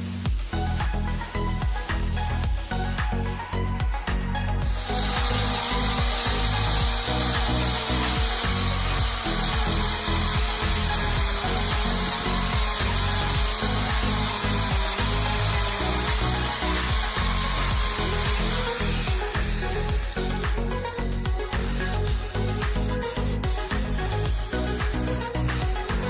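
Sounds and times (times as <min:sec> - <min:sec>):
background music bass beat: 0:00.0 - 0:26.0
power tool running: 0:00.3 - 0:03.2, 0:03.9 - 0:26.0.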